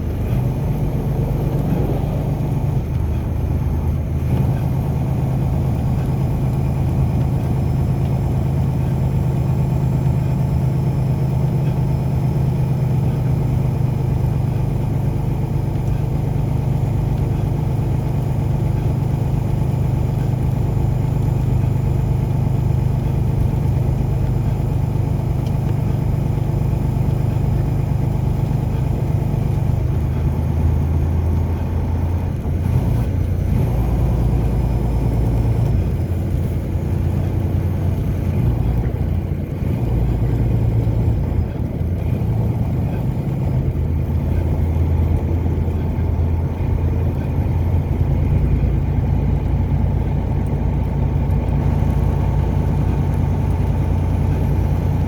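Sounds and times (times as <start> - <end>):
car engine and road drone: 0.0 - 55.0.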